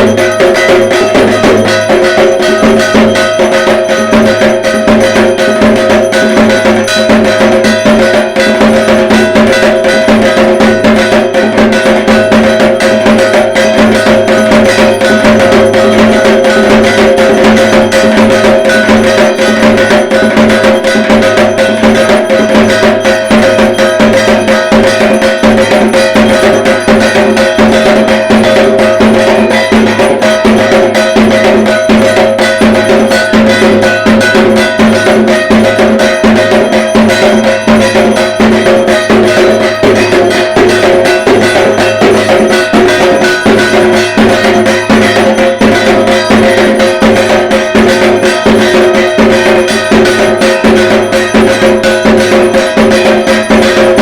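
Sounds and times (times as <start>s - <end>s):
barrel drum beaten with sticks: 0.0s - 54.0s
metallic ringing: 0.0s - 54.0s.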